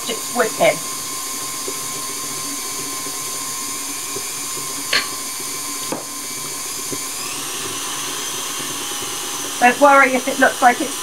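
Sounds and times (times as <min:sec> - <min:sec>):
electric mixer motor whine: 0:00.0 - 0:11.0.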